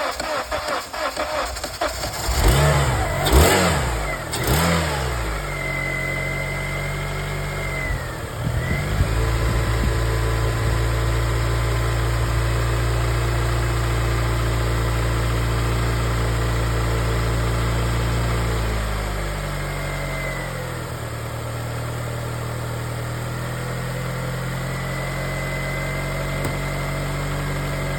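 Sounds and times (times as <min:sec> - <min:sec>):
car engine idling: 0:00.0 - 0:20.2, 0:20.8 - 0:27.9.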